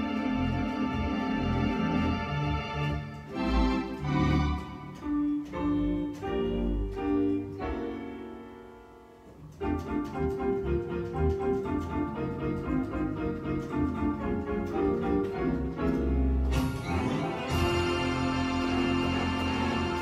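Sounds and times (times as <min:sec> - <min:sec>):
pipe organ chords: 0:00.0 - 0:20.0.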